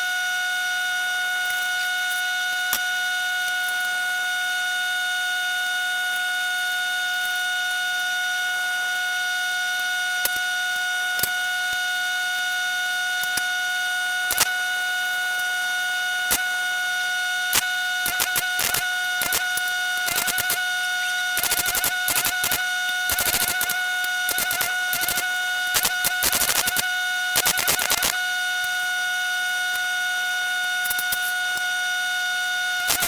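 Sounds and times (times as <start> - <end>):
welding machine buzzing: 0.0 - 33.0.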